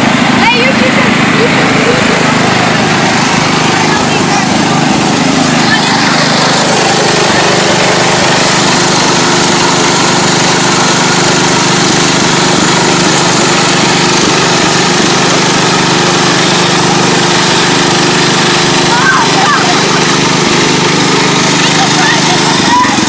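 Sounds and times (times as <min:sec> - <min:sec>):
garden tractor engine running: 0:00.0 - 0:23.0.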